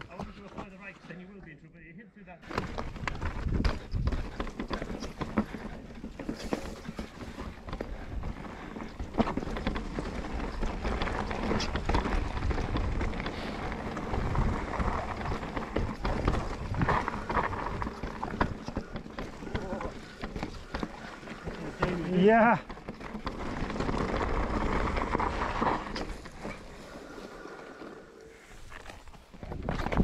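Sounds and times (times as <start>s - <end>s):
bike clattering over rocks: 2.4s - 27.2s.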